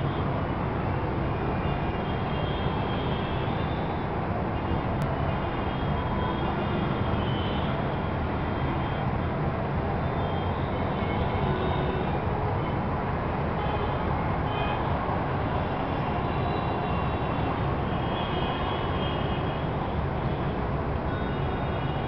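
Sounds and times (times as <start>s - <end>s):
city road traffic: 0.0s - 22.0s.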